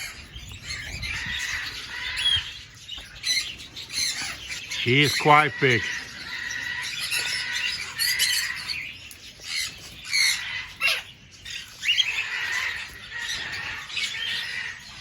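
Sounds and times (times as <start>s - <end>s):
cockatiels squawking and chirping: 0.0s - 15.0s.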